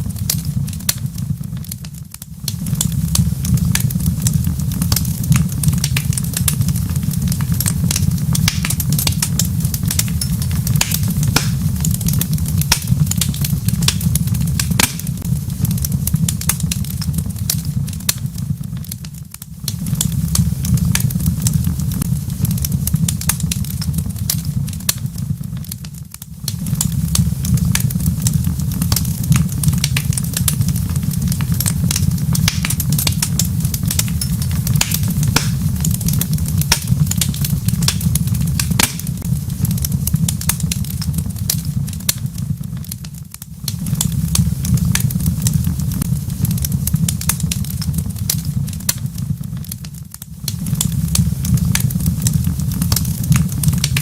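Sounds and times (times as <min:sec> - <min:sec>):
steady low rumble: 0:00.0 - 0:54.0
wood fire crackling: 0:00.0 - 0:54.0.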